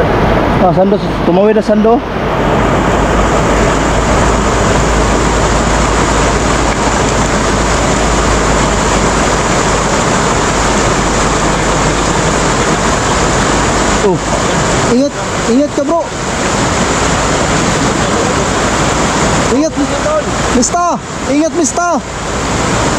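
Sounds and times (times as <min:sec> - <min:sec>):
river rapids roaring: 0:00.0 - 0:22.9.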